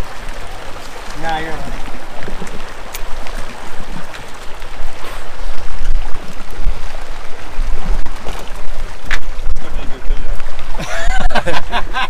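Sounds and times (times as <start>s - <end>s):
water lapping against boat hull: 0.0s - 12.0s
wind buffeting microphone: 0.0s - 12.0s.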